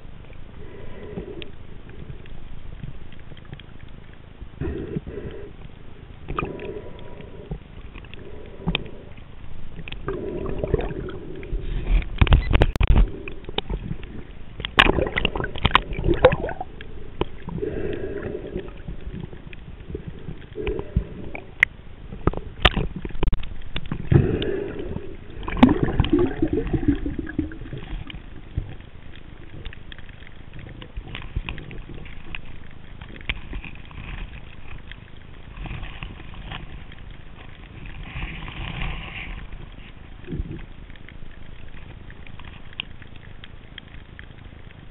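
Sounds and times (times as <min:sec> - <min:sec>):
water gurgling and sloshing: 0:00.0 - 0:44.9.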